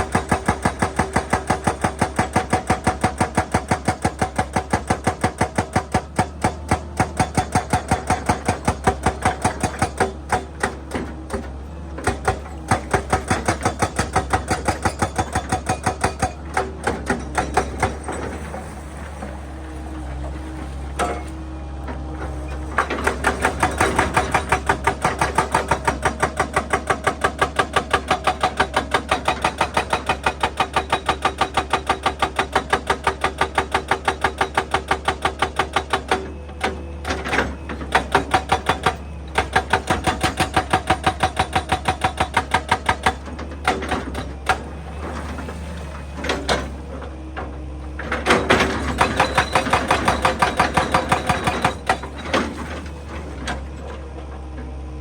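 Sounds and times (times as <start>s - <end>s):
excavator engine hum: 0.0s - 55.0s
hydraulic rock breaker hammering: 0.0s - 55.0s.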